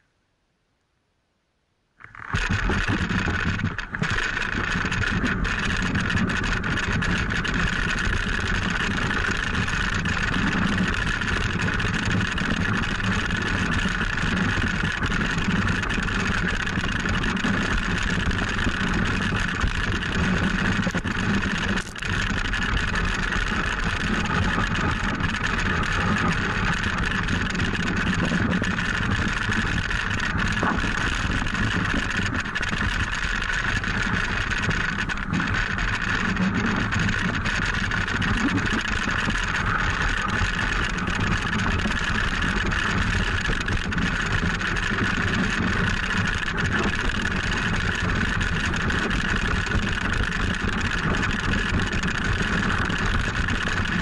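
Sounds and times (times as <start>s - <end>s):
wind rushing over microphone: 2.1s - 54.0s.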